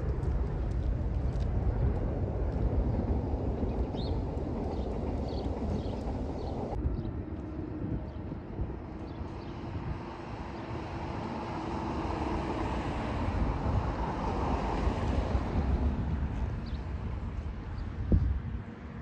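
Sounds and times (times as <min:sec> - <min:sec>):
distant jet engine roar: 0:00.0 - 0:19.0.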